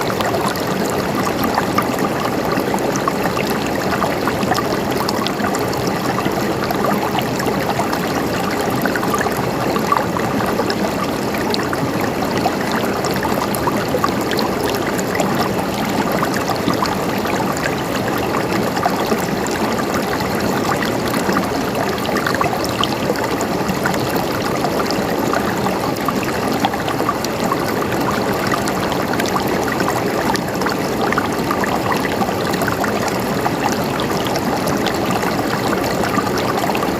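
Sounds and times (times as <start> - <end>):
river water flowing over rocks: 0.0 - 36.9.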